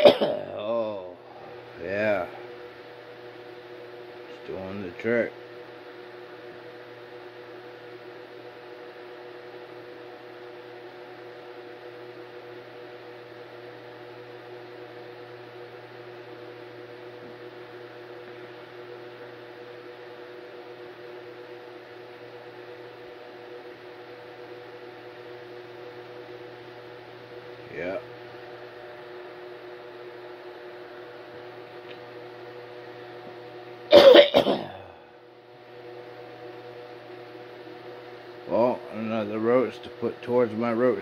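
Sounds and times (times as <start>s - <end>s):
room noise hum: 0.0s - 41.0s.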